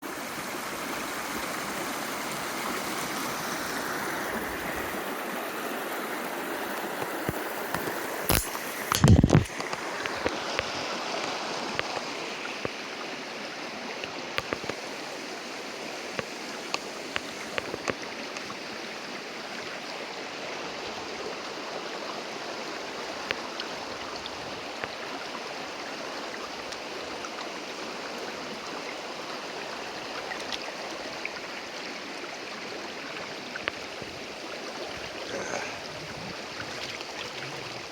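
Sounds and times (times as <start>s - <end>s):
creek water flowing over rocks: 0.0s - 37.9s.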